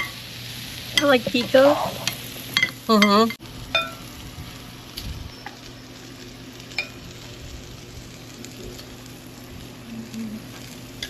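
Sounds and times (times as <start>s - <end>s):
food sizzling on a grill: 0.0s - 11.0s.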